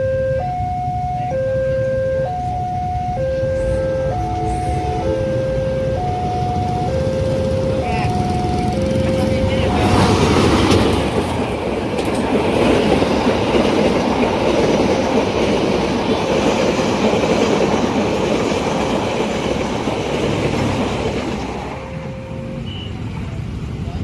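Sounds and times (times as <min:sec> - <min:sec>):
train wheels rushing over rails: 0:03.6 - 0:24.0.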